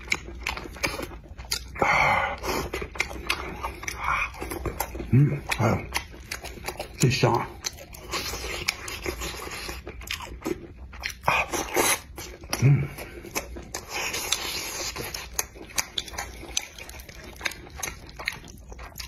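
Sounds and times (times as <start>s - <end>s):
wet chewing and smacking: 0.0s - 19.0s.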